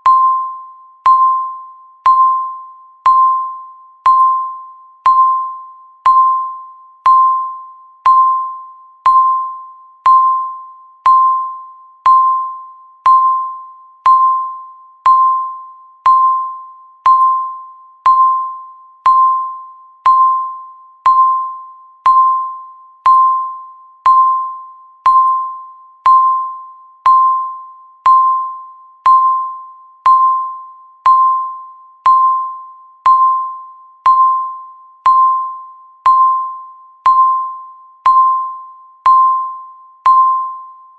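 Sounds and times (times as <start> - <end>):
electronic timer beeps: 0.0 - 40.9.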